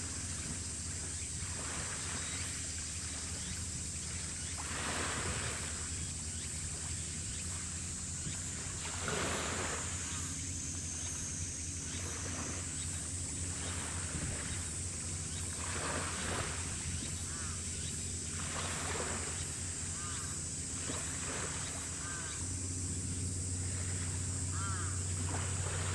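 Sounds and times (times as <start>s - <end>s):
ship engines droning: 0.0s - 25.9s
steady high hiss: 0.0s - 25.9s.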